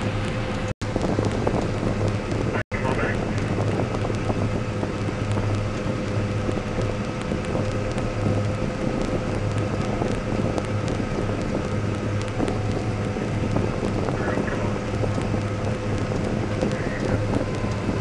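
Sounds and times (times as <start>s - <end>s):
combine harvester humming: 0.0s - 18.0s
ticks and crackles: 0.0s - 18.0s.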